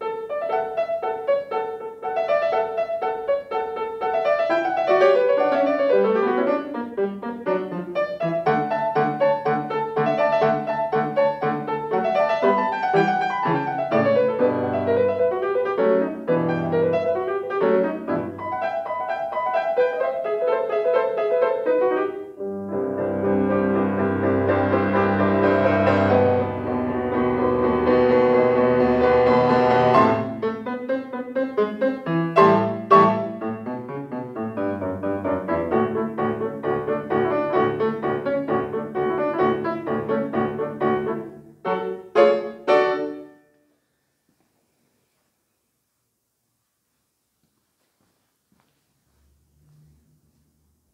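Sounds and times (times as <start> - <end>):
solo grand piano: 0.0 - 45.6.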